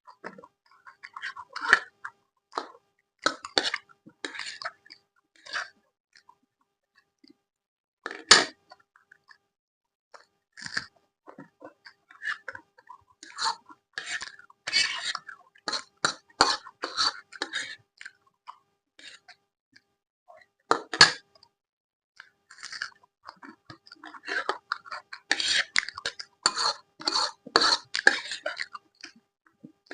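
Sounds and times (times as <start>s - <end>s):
close chewing and eating: 0.0s - 7.4s, 10.2s - 21.5s, 22.2s - 29.9s.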